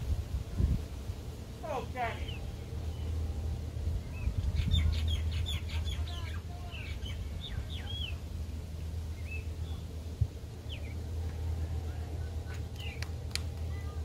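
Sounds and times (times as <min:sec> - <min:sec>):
steady low rumble: 0:00.0 - 0:14.0
birds chirping: 0:01.4 - 0:14.0.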